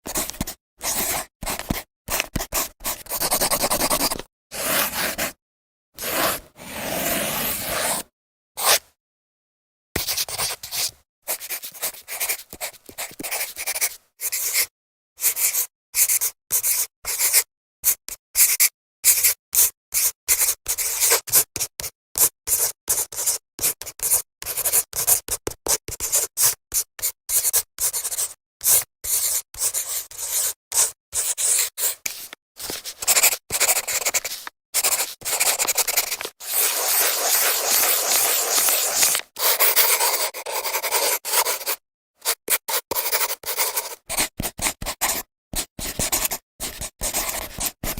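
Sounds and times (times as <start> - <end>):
marker pen scratching on whiteboard: 0.1 - 5.4, 6.0 - 8.0, 8.6 - 8.8, 10.0 - 17.4, 19.2 - 47.9.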